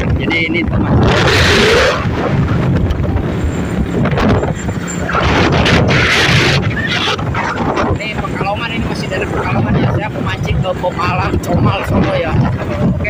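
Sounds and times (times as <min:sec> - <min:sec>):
motorcycle engine and road noise: 0:00.0 - 0:13.0
wind buffeting microphone: 0:00.0 - 0:13.0.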